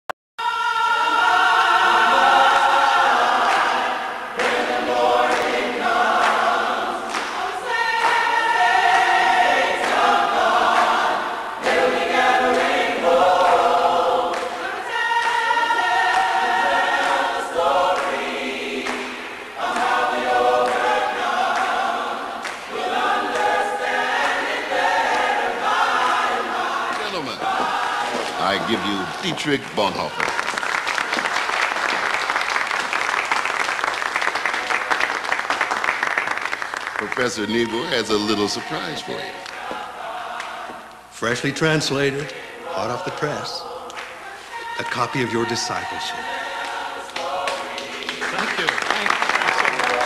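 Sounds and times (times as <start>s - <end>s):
congregation singing in harmony: 0.4s - 50.0s.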